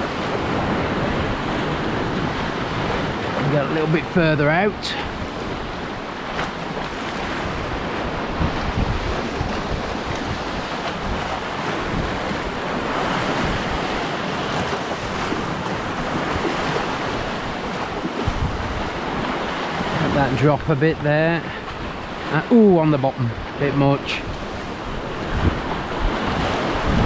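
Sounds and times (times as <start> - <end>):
sea waves and surf: 0.0 - 27.0
wind buffeting microphone: 0.0 - 27.0.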